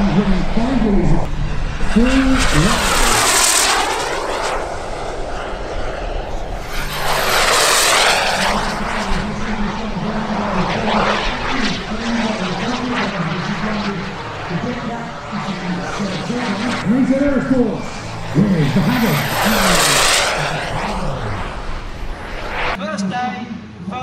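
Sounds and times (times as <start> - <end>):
model jet rushing past: 0.0 - 22.8.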